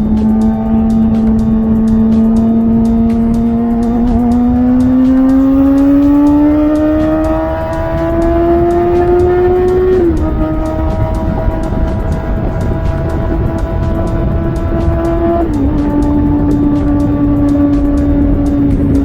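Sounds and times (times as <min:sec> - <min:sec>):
motorcycle engine at high revs: 0:00.0 - 0:19.0.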